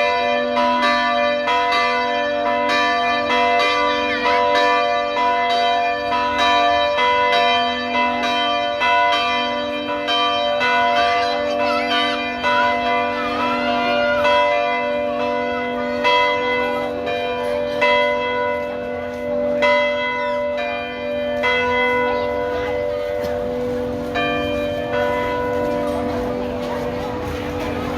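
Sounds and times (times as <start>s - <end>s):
church bells pealing: 0.0s - 27.9s.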